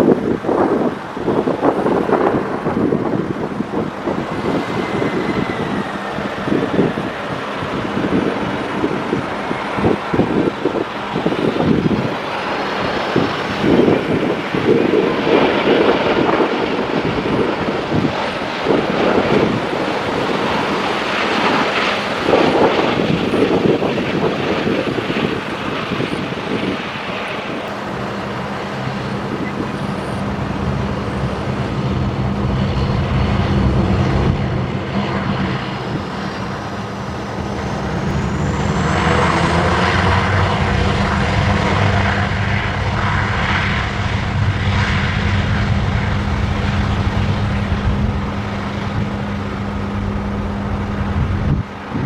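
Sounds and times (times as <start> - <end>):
jet engines humming and rushing: 0.0 - 52.0
high rising whine: 3.6 - 52.0.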